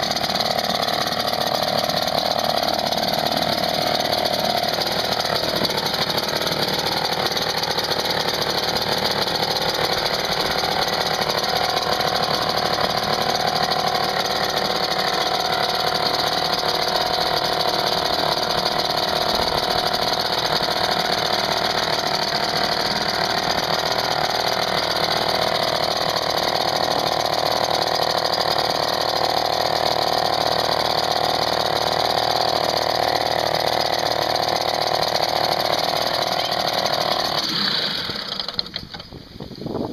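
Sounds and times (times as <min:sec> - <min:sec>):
two-stroke outboard motor running: 0:00.0 - 0:39.4.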